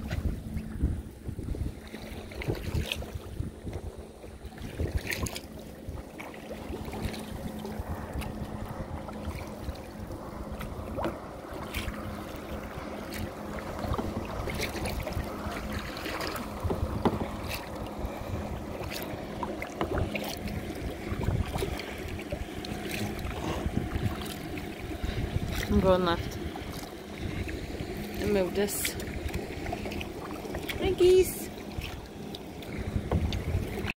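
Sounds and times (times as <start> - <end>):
paddle splashing in water: 0.0 - 33.9
wind buffeting microphone: 0.0 - 33.9.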